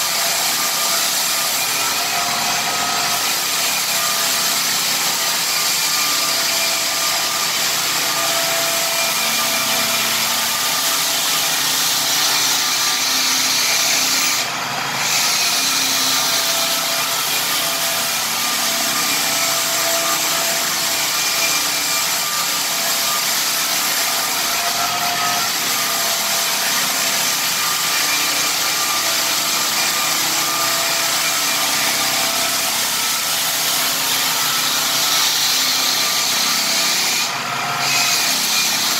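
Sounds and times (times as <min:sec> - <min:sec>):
floor sander grinding wood: 0:00.0 - 0:38.9.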